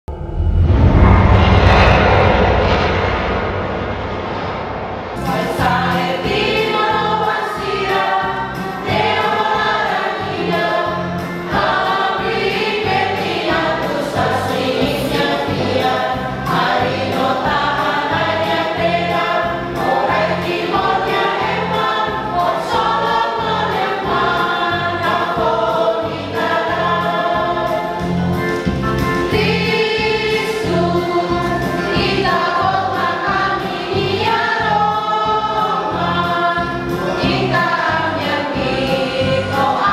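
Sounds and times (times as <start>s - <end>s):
choir singing: 5.2s - 28.4s, 29.2s - 39.9s.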